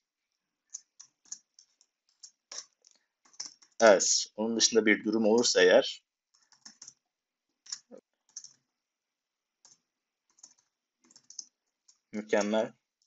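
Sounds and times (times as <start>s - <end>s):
faint keyboard typing: 0.0s - 5.6s, 6.2s - 8.8s, 9.6s - 13.0s.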